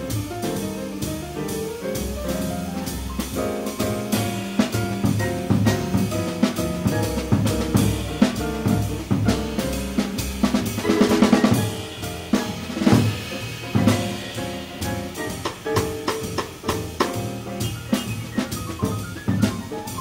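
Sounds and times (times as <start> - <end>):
drum and cymbal hits: 0.0 - 20.0
piano chords: 0.0 - 20.0
walking double bass: 0.0 - 20.0.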